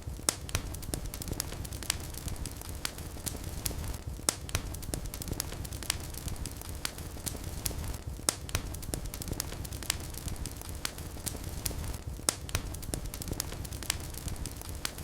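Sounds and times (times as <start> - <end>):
wood fire crackling and popping: 0.0 - 15.0
low rumble of flames: 0.1 - 14.8.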